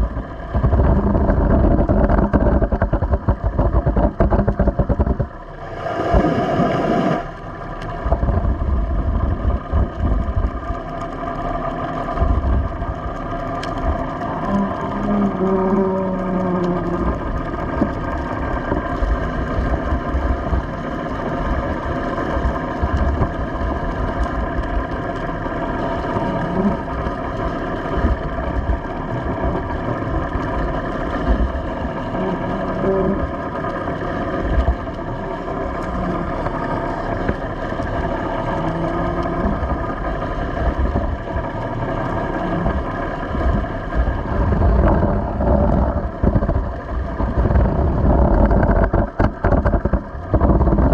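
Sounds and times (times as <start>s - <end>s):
boat engine humming: 0.0s - 50.9s
low rumbling: 0.0s - 50.9s.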